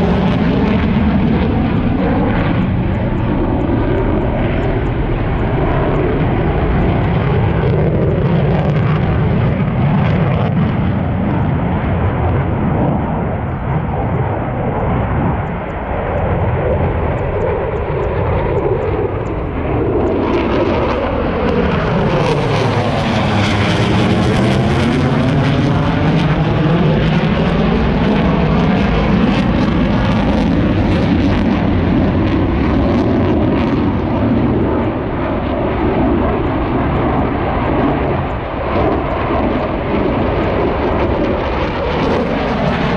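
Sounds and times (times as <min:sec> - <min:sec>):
military aircraft flying past: 0:00.0 - 0:42.9.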